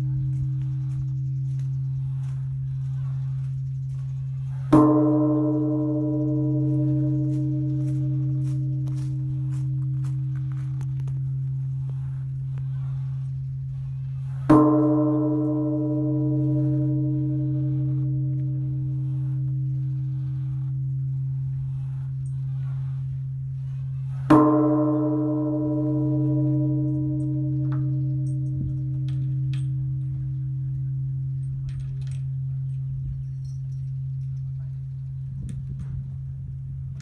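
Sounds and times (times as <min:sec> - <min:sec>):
large temple bell ringing: 0:00.0 - 0:37.0
steady low hum: 0:00.0 - 0:37.0.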